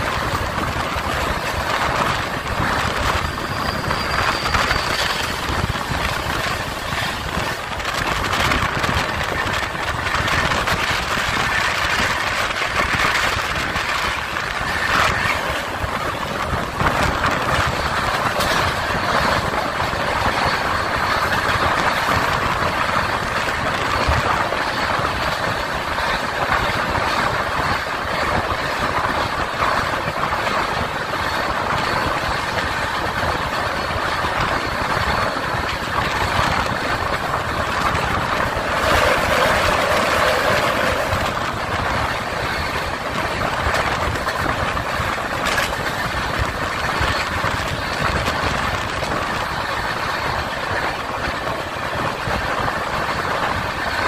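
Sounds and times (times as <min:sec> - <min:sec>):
train wheels rushing on rails: 0:00.0 - 0:54.0
wind rushing: 0:00.0 - 0:54.0.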